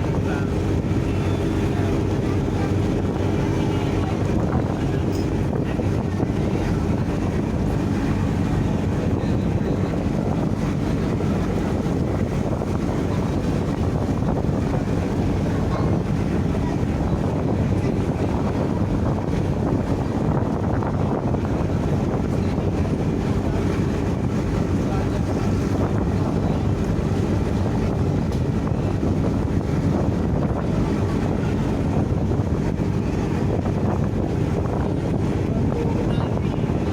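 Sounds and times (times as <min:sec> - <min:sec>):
ship engine droning: 0:00.0 - 0:36.9
wind on microphone: 0:00.0 - 0:36.9.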